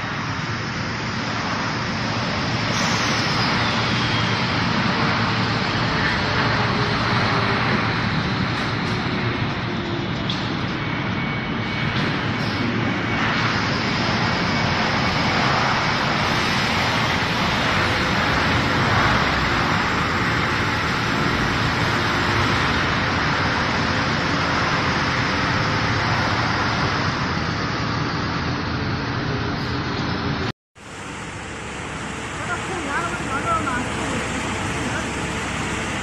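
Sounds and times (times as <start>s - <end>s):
factory machinery din: 0.0s - 36.0s.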